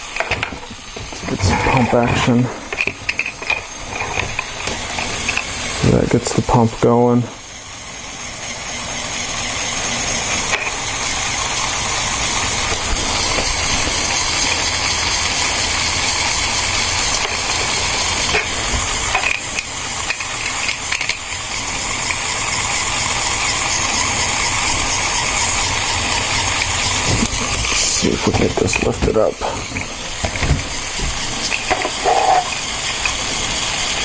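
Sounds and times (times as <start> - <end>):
electric motor whirring clatter: 0.0 - 34.0.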